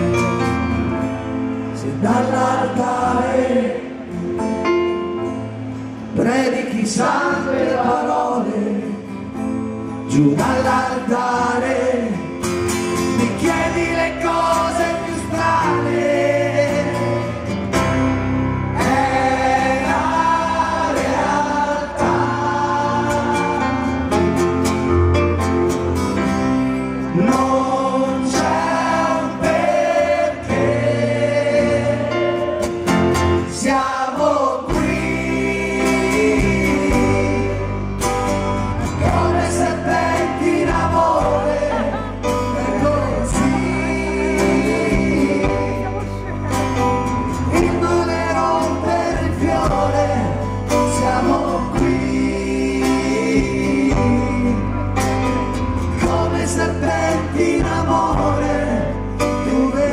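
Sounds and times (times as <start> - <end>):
bass guitar: 0.0 - 3.0, 9.2 - 59.9
live rock band playing: 0.0 - 6.4, 8.5 - 59.9
acoustic guitar: 0.0 - 59.9.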